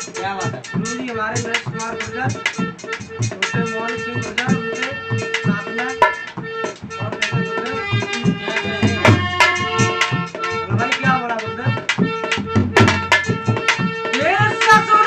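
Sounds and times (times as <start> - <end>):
quick dholak rhythm: 0.0 - 15.0
harmonium sustained chords: 0.7 - 15.0.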